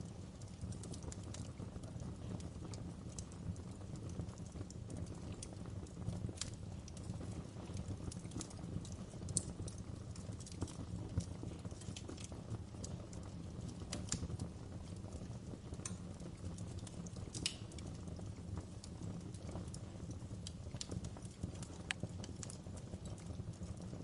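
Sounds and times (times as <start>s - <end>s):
fire crackling and popping: 0.0s - 24.0s
low rumble of burning: 0.0s - 24.0s.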